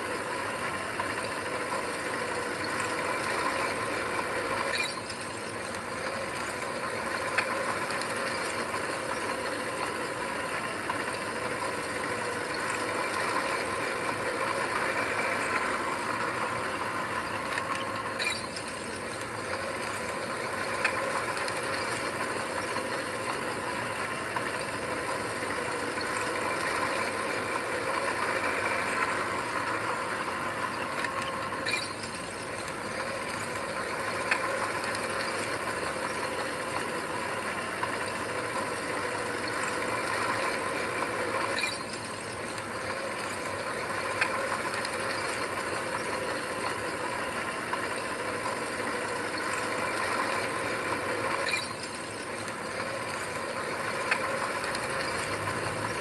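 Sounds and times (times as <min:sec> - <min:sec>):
bulldozer engine running: 0:00.0 - 0:56.0.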